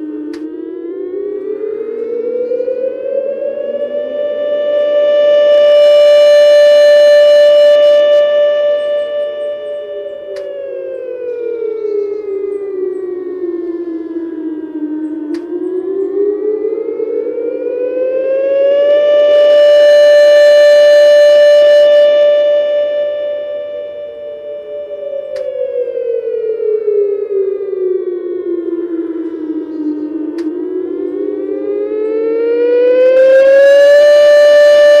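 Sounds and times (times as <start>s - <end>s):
siren wailing: 0.0s - 35.0s.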